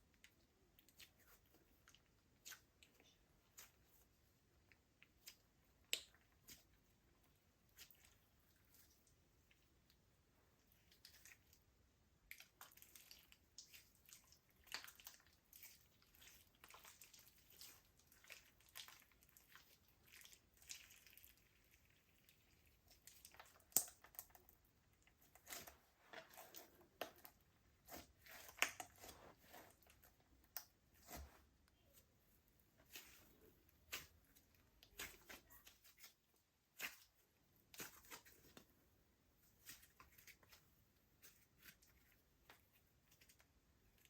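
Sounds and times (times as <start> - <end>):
slime squishing with sticky clicks: 0.0 - 31.9, 32.8 - 38.7.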